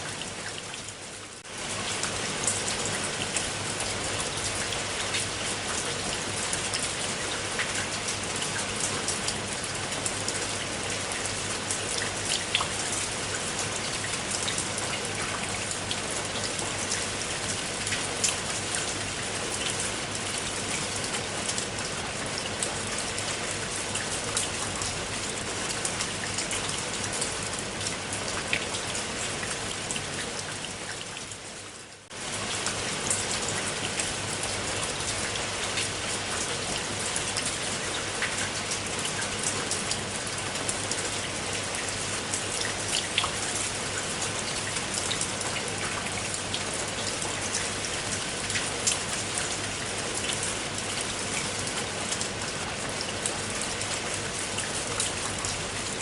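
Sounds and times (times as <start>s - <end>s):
raindrops ticking on a surface: 0.0s - 56.0s
steady rain: 0.0s - 56.0s.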